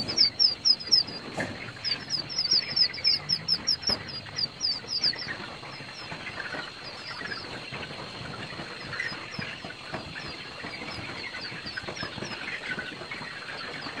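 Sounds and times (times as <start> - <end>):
chicks peeping: 0.0 - 14.0
rustling and scratching: 0.0 - 14.0.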